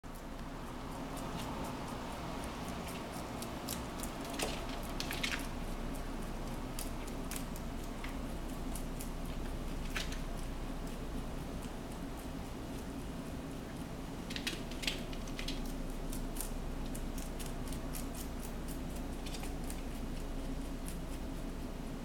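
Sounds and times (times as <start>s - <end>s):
rabbit chewing lettuce: 0.0s - 22.0s
steady low hum: 0.0s - 22.0s.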